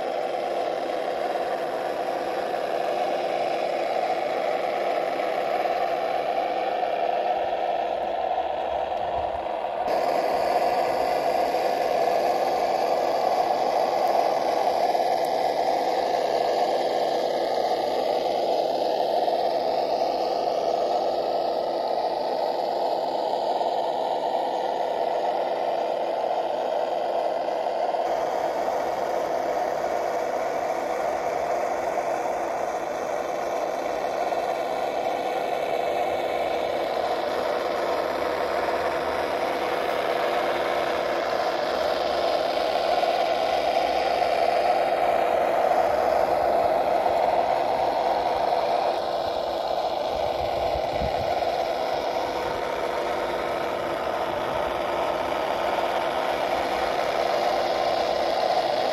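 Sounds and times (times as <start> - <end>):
electric motor and drivetrain whir: 0.0 - 58.9
simulated truck engine sound: 0.0 - 58.9.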